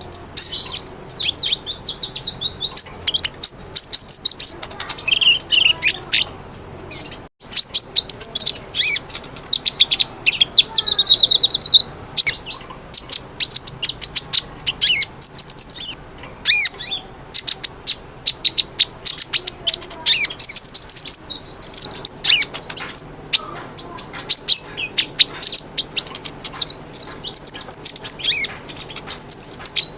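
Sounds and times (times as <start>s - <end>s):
sunbird song with chirps and whistles: 0.0s - 6.3s, 6.9s - 29.9s.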